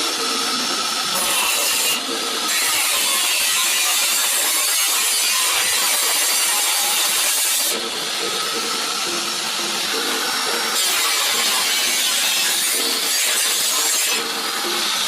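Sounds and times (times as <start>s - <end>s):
power tool cutting sheet metal: 0.0s - 15.0s.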